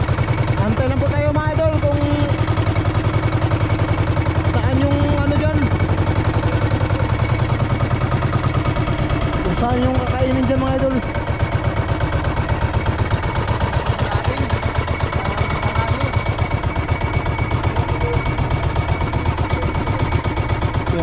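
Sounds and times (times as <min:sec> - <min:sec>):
boat engine thumping: 0:00.0 - 0:21.0.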